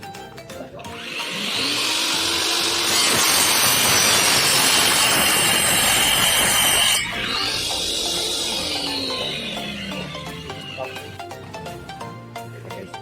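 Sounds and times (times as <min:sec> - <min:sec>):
table saw cutting wood: 0:00.9 - 0:11.6.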